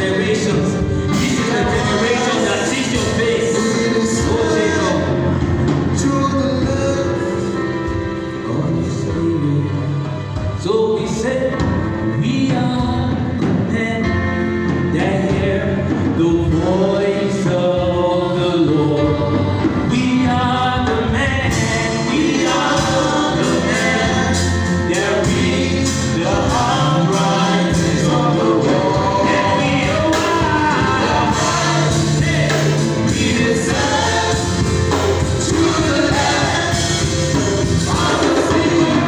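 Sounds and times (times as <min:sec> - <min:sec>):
choir singing gospel song: 0:00.0 - 0:39.0
full band backing: 0:00.0 - 0:39.0.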